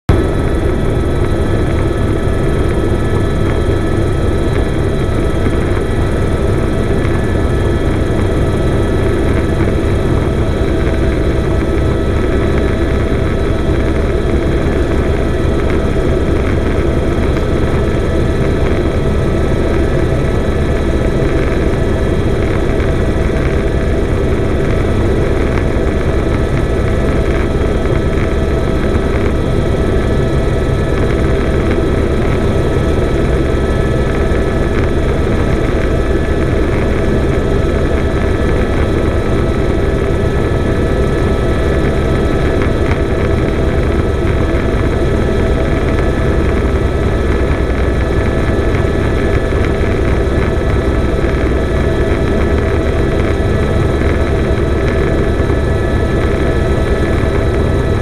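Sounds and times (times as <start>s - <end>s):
helicopter rotor and engine din: 0.1s - 58.0s.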